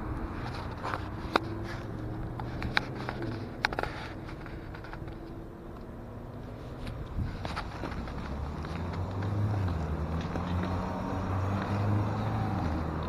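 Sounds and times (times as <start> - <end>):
car engines humming: 0.0 - 13.0
cars passing: 0.0 - 13.0.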